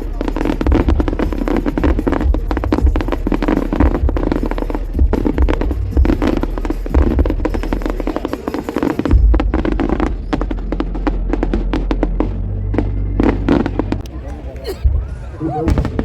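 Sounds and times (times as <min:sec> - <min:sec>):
low booms of bursting shells: 0:00.0 - 0:14.0, 0:14.8 - 0:16.0
fireworks crackling: 0:00.0 - 0:16.0.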